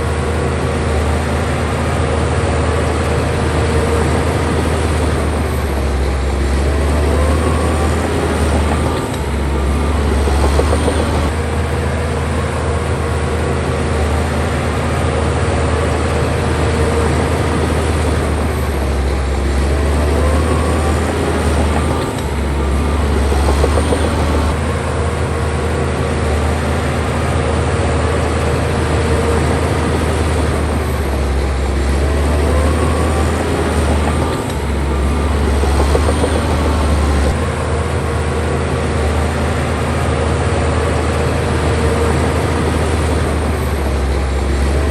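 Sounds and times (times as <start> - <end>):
bulldozer diesel engine running: 0.0 - 44.9
track squeals: 0.0 - 44.9.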